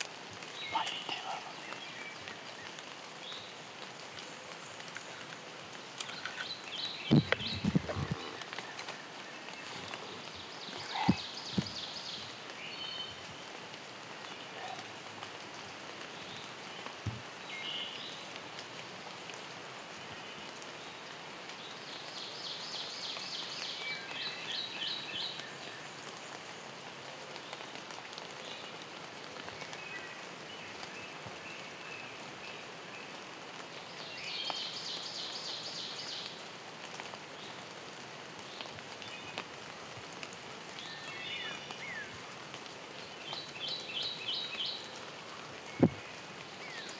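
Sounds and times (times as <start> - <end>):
rain falling on foliage: 0.0 - 46.9.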